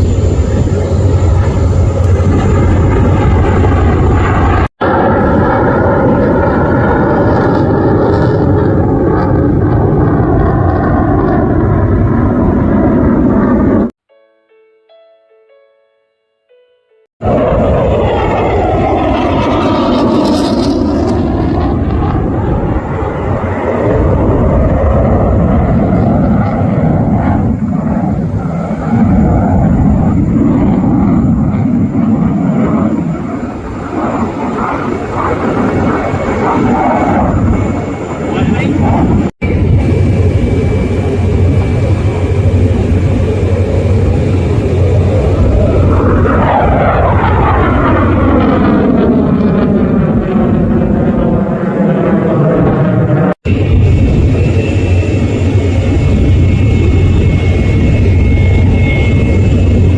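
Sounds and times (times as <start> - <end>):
fighter jet flying past: 0.0 - 13.9, 17.2 - 59.9.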